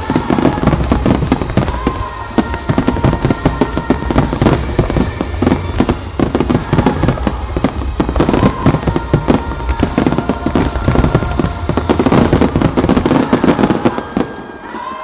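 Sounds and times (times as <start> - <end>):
fireworks bursting and crackling: 0.0 - 15.0
music: 0.0 - 15.0.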